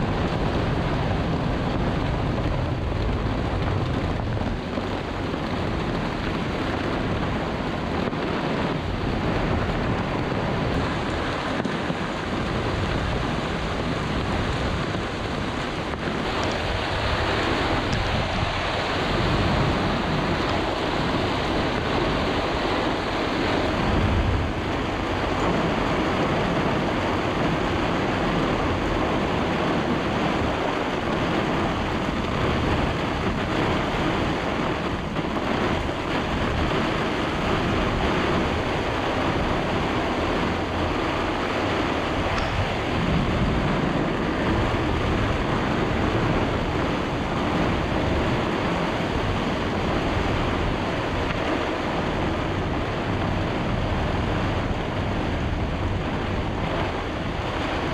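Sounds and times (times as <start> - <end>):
rushing waves: 0.0 - 57.9
storm wind buffeting microphone: 0.0 - 57.9.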